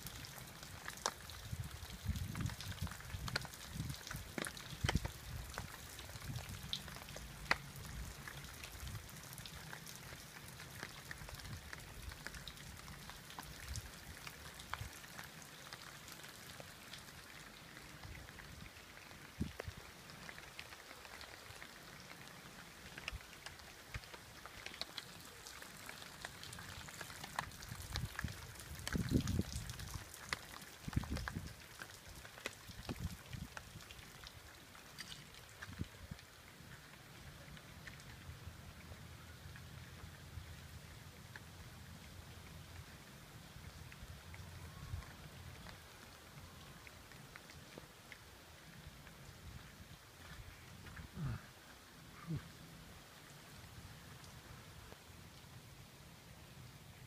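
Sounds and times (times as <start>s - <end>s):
rain falling: 0.0s - 57.0s
raindrops ticking: 0.0s - 57.0s.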